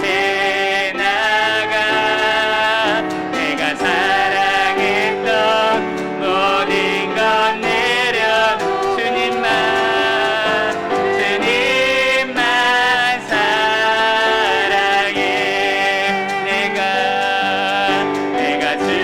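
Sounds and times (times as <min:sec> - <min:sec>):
group singing worship song: 0:00.0 - 0:19.0
piano accompaniment: 0:00.0 - 0:19.0.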